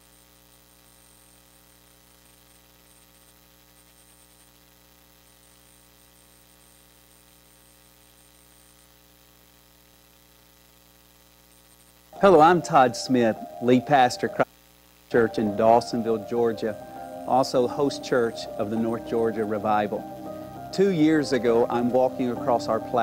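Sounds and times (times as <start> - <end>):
faint high-pitched whine: 0.0 - 23.0
faint mains hum: 0.0 - 23.0.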